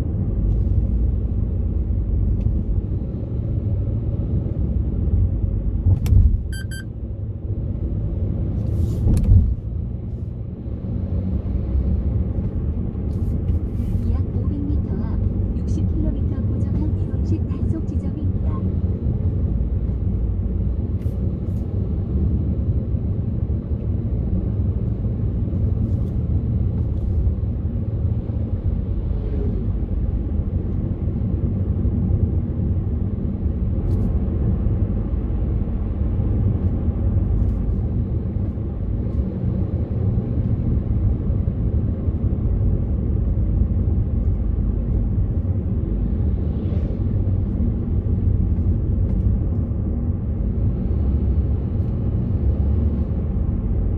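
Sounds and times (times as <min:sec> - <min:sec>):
car driving on paved road: 0:00.0 - 0:53.9.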